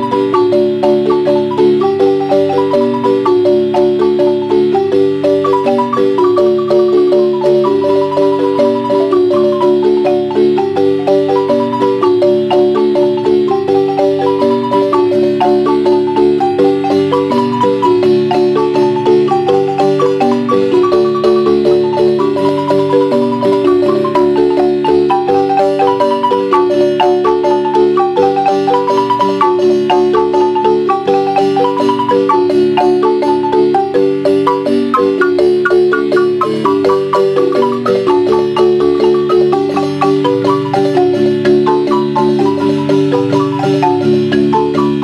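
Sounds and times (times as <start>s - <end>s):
marimba played with mallets: 0.0s - 45.0s.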